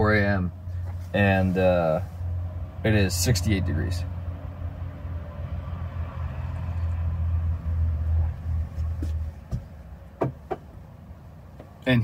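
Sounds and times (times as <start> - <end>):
low rumbling hum: 0.0 - 11.8.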